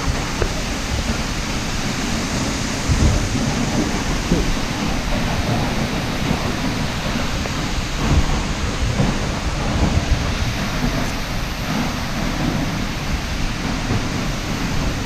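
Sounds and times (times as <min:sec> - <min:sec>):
heavy low rumble: 0:00.0 - 0:15.0
waterfall roaring: 0:00.0 - 0:15.0.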